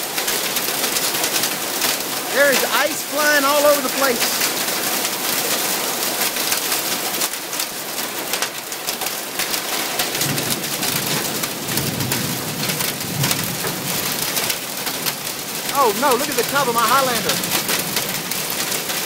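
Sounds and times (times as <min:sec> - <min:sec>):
hail and heavy rain on tin roof: 0:00.0 - 0:19.0.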